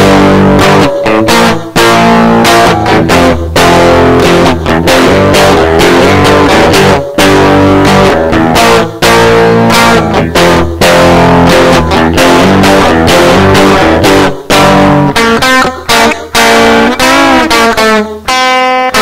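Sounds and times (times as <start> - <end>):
electric guitar strumming chords: 0.0 - 19.0.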